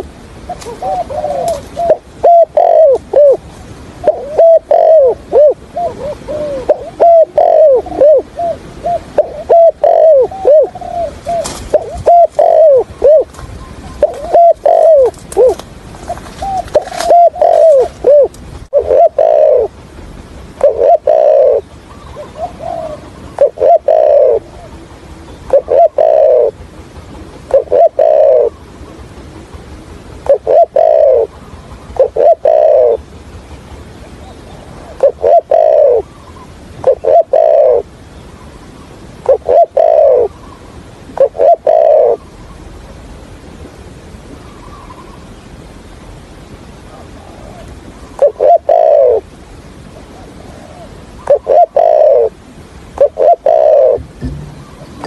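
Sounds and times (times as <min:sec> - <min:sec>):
dove cooing: 0:00.0 - 0:19.8, 0:20.6 - 0:33.2, 0:34.0 - 0:42.6, 0:43.4 - 0:45.4, 0:46.8 - 0:55.0.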